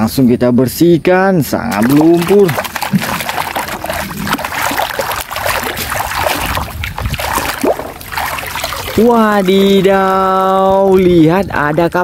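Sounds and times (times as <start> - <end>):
water sloshing in a basin: 1.7 - 12.0.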